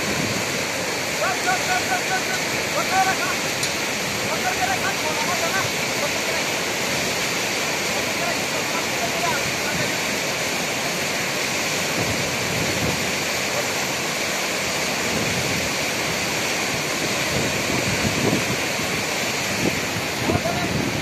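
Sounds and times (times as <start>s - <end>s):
river rapids rushing roar: 0.0s - 21.0s.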